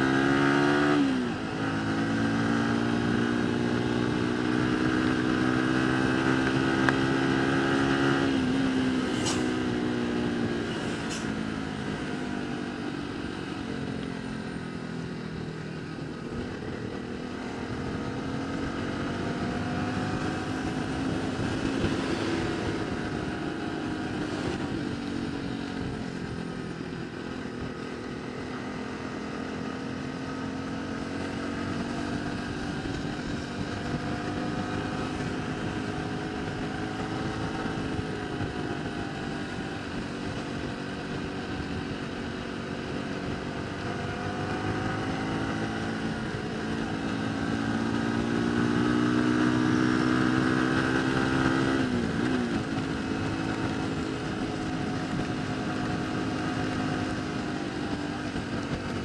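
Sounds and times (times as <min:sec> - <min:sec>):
vehicle engine running: 0:08.4 - 0:59.0.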